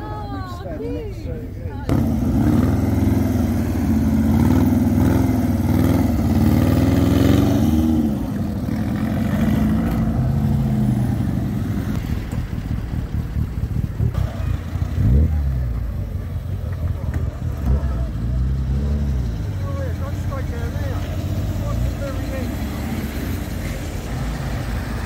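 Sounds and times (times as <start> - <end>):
motorcycle trike engines revving: 0.0 - 25.0.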